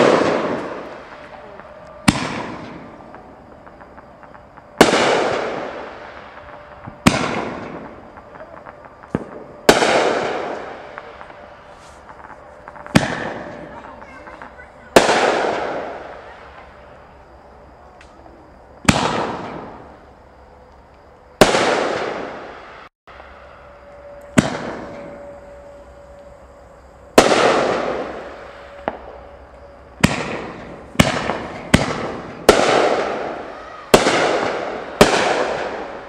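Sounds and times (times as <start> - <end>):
aerial firework bursts: 0.0 - 16.8, 18.8 - 20.1, 21.4 - 23.4, 24.3 - 25.9, 27.1 - 36.0
firework crackling tails: 0.0 - 36.0.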